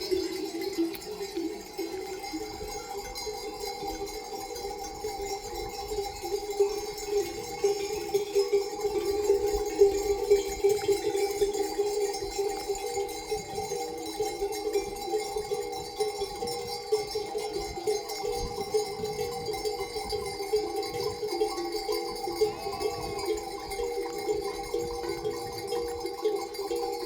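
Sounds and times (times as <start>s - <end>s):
livestock bells clanking: 0.0s - 27.0s.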